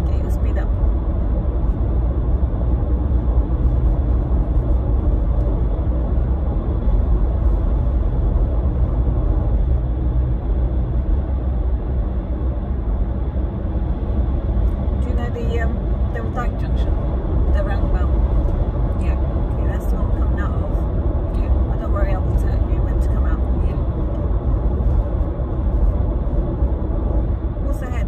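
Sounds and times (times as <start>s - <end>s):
car engine rumble: 0.0s - 28.0s.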